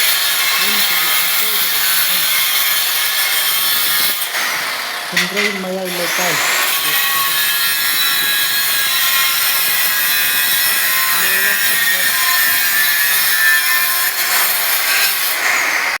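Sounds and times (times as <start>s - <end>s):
power tool whining while cutting: 0.0s - 16.0s.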